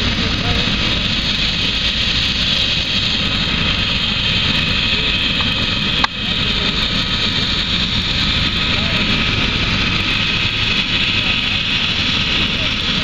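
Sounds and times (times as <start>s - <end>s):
helicopter running: 0.0s - 13.0s.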